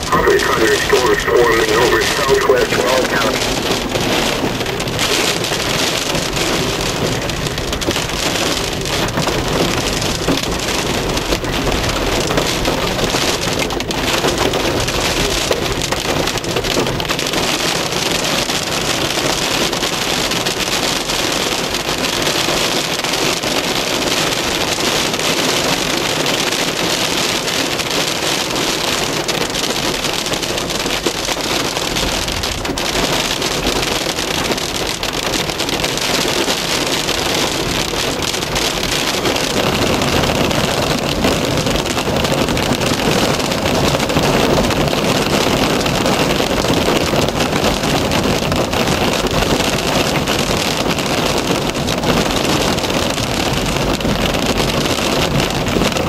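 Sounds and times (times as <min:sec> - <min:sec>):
hail and rain on a car: 0:00.0 - 0:56.0.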